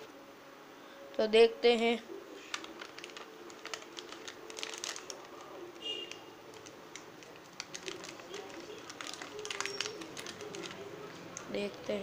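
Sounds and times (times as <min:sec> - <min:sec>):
plastic wrapper crinkling: 0:02.3 - 0:12.0.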